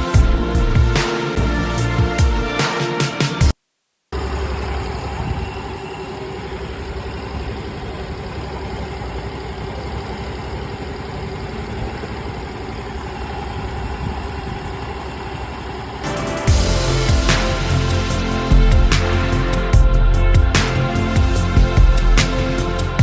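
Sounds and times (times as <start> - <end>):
scooter engine idling: 4.2 - 23.0
steady drive hum: 4.2 - 23.0.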